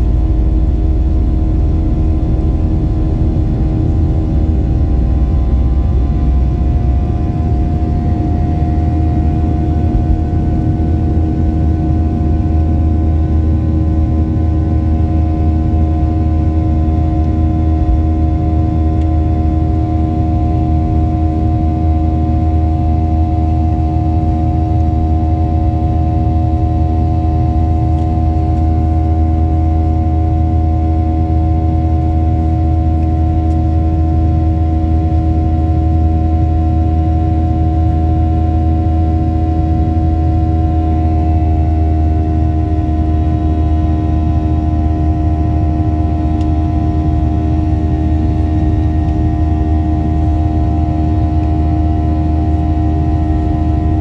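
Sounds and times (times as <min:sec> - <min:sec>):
airliner cabin rumble: 0:00.0 - 0:54.0
jet engines humming and whining: 0:00.0 - 0:54.0.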